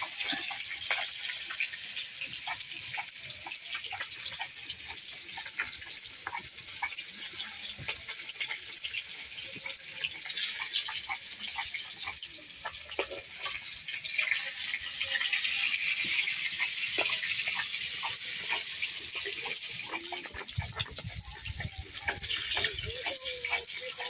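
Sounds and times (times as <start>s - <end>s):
stone grinding spice seeds: 0.0s - 24.0s.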